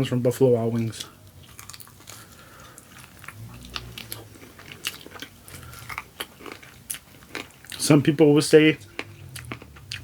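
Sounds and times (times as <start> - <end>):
person chewing and biting food: 0.8 - 8.0, 8.8 - 10.0.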